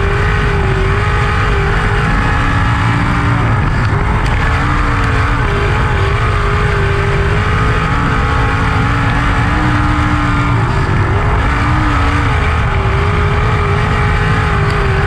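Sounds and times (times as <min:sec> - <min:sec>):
racing car engine: 0:00.0 - 0:15.0.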